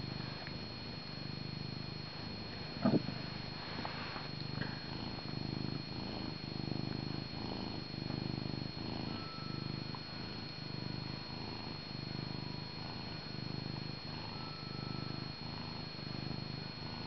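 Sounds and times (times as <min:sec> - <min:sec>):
cat purring loudly: 0:00.0 - 0:17.0.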